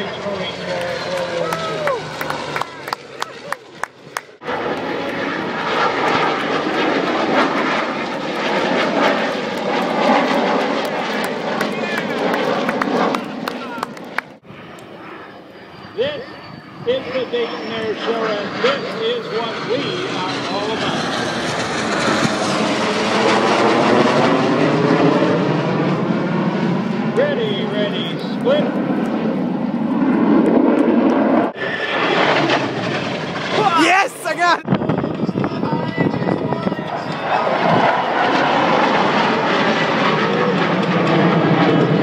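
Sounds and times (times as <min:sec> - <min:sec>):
fighter planes flying past: 0:00.0 - 0:42.0.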